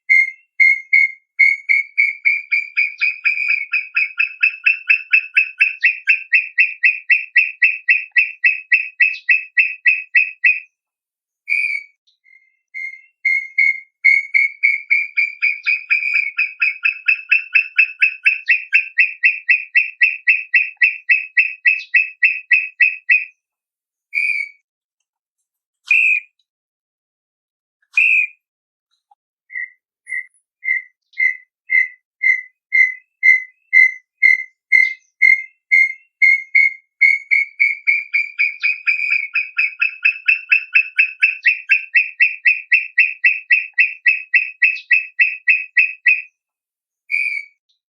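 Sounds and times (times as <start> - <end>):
bird whistling rapid notes: 0.0 - 10.6, 11.5 - 23.3, 24.2 - 24.6, 28.0 - 28.4, 29.5 - 46.3, 47.1 - 47.6.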